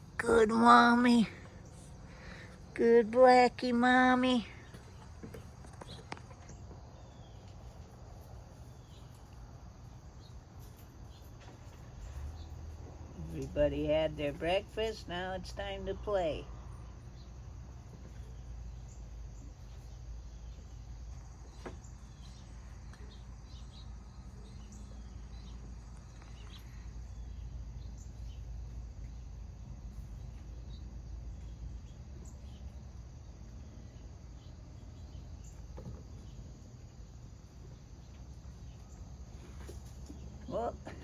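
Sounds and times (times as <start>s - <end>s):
insect chorus: 0.0s - 41.0s
low steady rumble: 0.0s - 41.0s.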